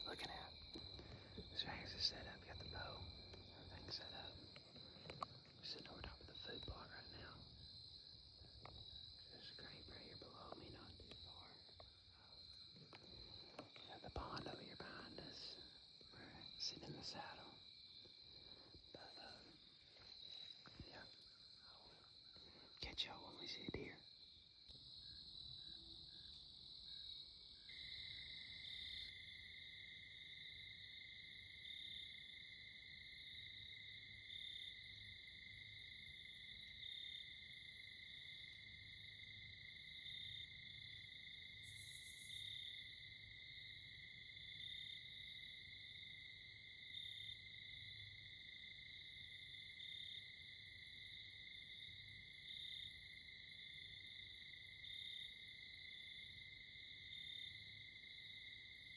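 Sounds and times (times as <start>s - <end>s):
crickets trilling: 0.0s - 58.9s
lower insect trill: 0.0s - 58.9s.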